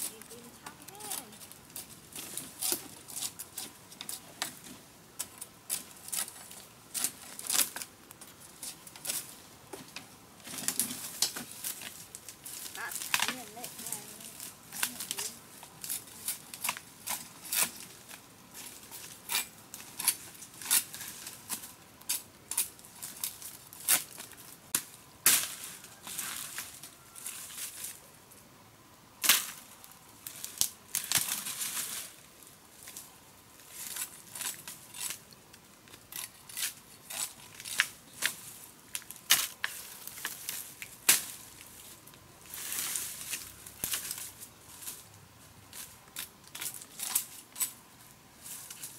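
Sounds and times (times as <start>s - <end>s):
dry leaves and sticks crunching: 0.0s - 28.1s, 29.2s - 48.9s.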